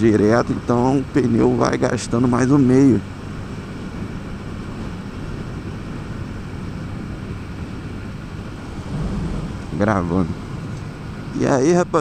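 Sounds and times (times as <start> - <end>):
motorcycle wind and road noise: 0.0 - 12.0.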